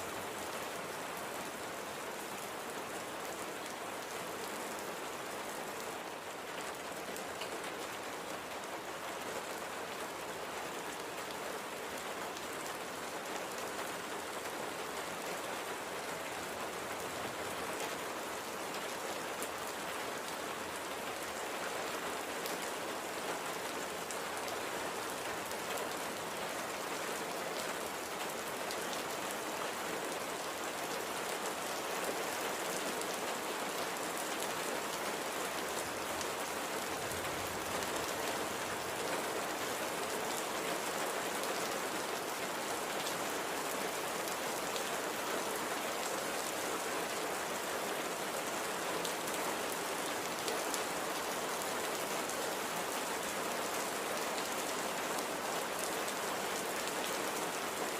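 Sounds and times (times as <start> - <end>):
light rain pattering: 0.0 - 57.9.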